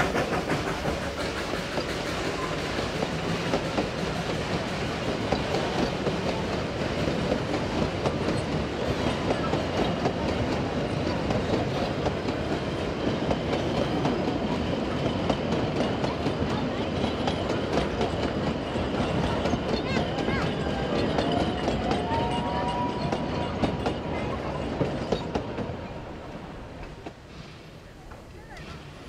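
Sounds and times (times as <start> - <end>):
train wheels clicking over rail joints: 0.0 - 29.0.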